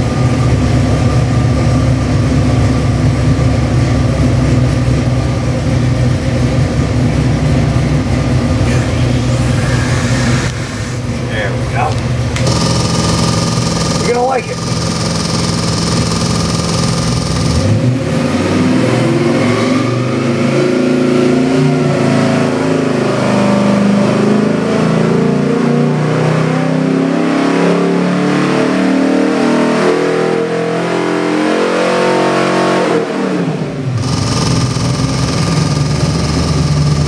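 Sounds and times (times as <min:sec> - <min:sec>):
engine revving on a dyno: 0:00.0 - 0:37.0.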